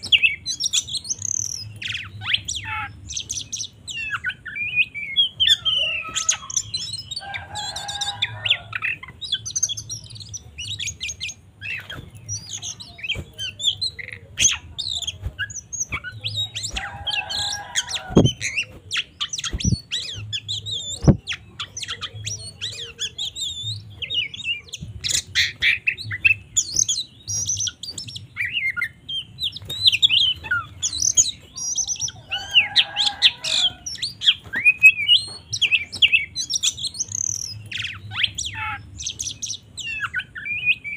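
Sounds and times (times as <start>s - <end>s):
bird whistling and chirping: 0.0s - 40.9s.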